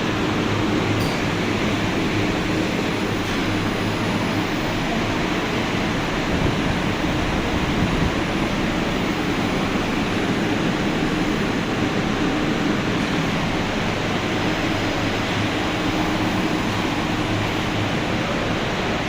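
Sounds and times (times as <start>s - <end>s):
industrial machinery rushing hum: 0.0s - 19.0s.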